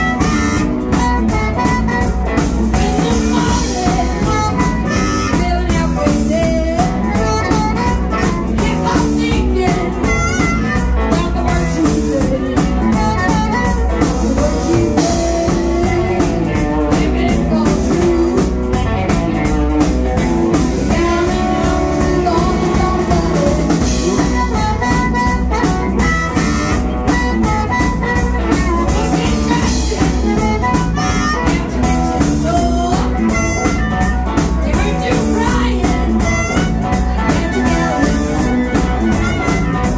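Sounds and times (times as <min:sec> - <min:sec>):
amplified harmonica: 0:00.0 - 0:39.9
drum kit: 0:00.0 - 0:39.9
electric bass: 0:00.0 - 0:39.9
electric guitar: 0:00.0 - 0:39.9
woman singing: 0:00.0 - 0:39.9.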